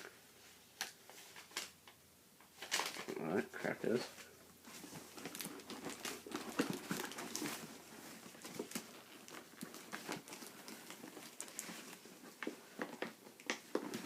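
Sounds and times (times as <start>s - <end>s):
cardboard and plastic crinkling: 0.8s - 14.0s.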